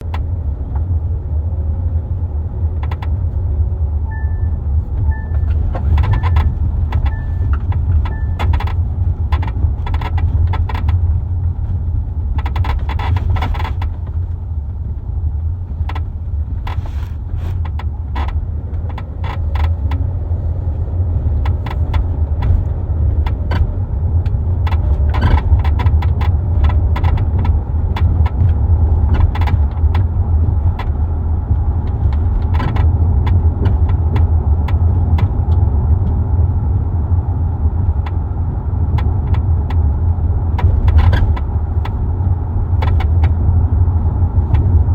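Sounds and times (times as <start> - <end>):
creaking and clicking in car: 0.0 - 44.9
low road rumble: 0.0 - 44.9.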